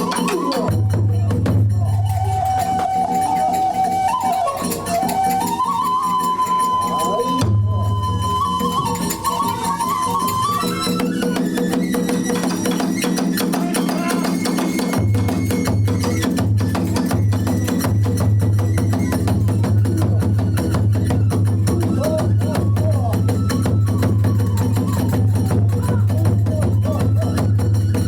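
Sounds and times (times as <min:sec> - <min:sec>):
transverse flute melody: 0:00.0 - 0:28.0.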